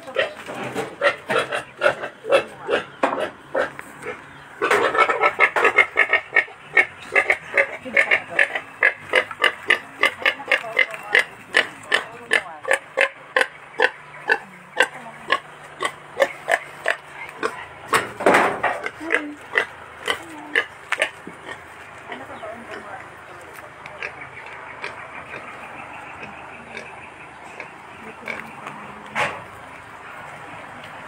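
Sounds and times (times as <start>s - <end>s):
pig grunting: 0.0s - 28.9s.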